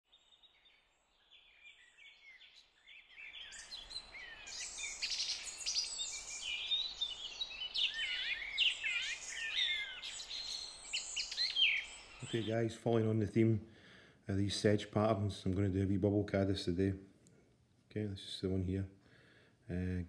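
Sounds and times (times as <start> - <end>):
small birds singing and chirping: 0.1 - 17.0.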